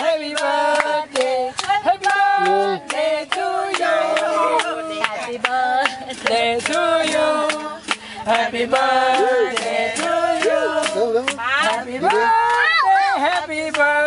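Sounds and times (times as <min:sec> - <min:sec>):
hand claps: 0:00.0 - 0:08.1, 0:08.7 - 0:14.0
adults and children singing: 0:00.0 - 0:14.0.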